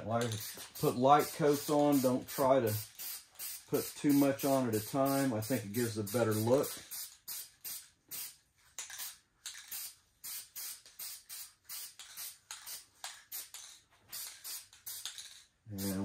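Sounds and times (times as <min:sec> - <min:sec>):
spray can hissing: 0:00.2 - 0:16.0.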